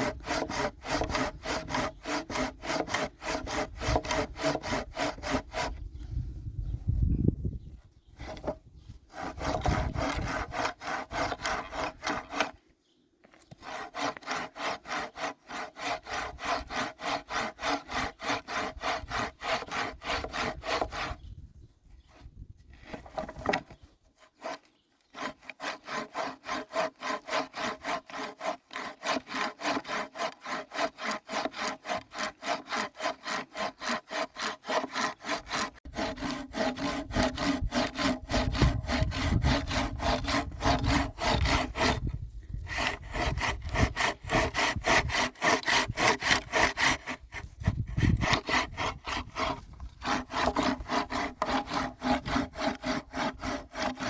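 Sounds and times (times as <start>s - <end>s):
hand saw cutting wood: 0.0s - 6.0s, 8.2s - 12.6s, 13.3s - 21.3s, 22.0s - 54.0s.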